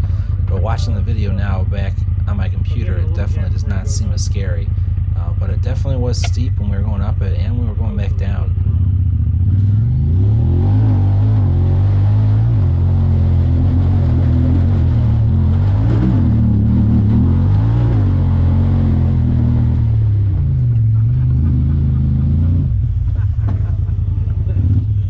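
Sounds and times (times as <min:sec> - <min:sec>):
engine revving under load: 0:00.0 - 0:25.0.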